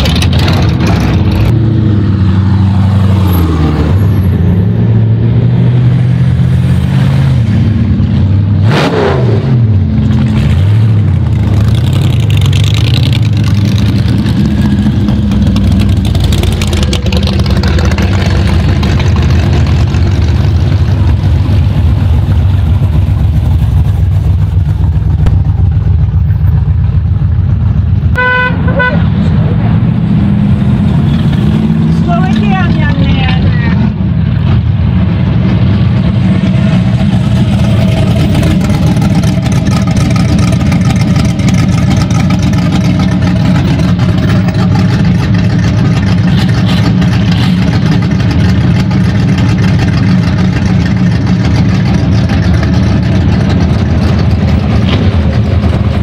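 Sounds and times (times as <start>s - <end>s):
cars driving slowly past: 9.7s - 56.0s.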